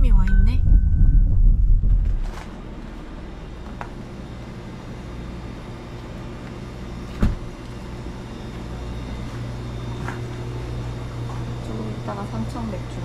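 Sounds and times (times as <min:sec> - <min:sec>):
low mains hum of fridges: 0:00.0 - 0:13.0.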